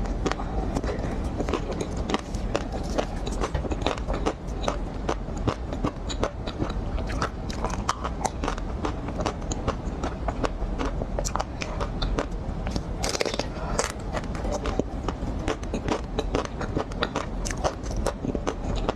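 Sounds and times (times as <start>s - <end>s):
biting and chewing ice cream: 0.0s - 18.9s.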